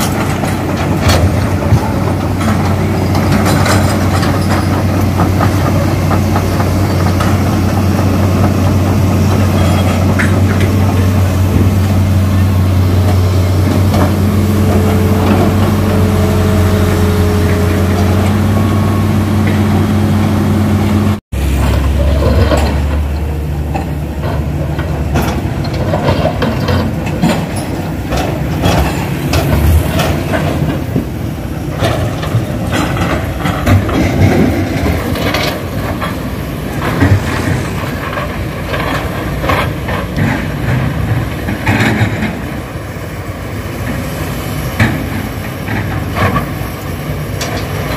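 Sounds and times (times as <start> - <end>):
excavator diesel engine whine: 0.0 - 47.9.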